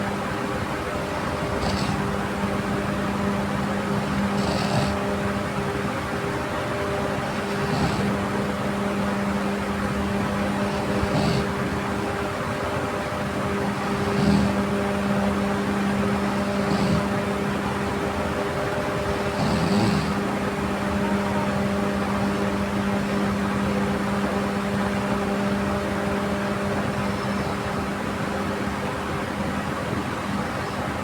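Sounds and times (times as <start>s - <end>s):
steady machine hum with hiss: 0.0s - 31.0s.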